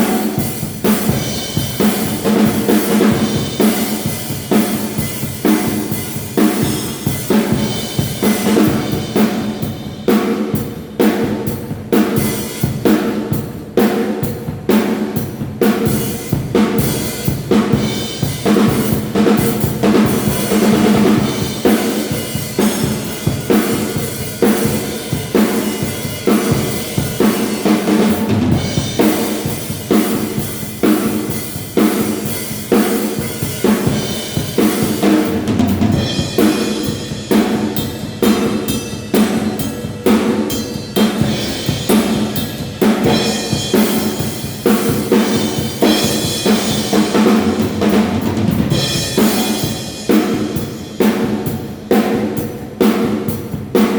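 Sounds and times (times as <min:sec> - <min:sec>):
drum kit playing: 0:00.0 - 0:53.9.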